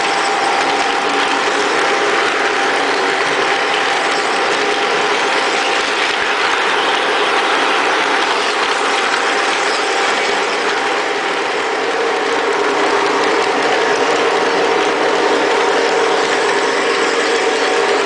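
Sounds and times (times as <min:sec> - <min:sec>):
model train wheels clattering: 0:00.0 - 0:18.0.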